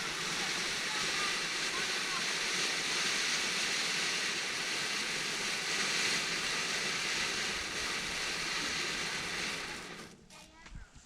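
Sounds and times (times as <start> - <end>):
firework fountain hissing: 0.0 - 10.4.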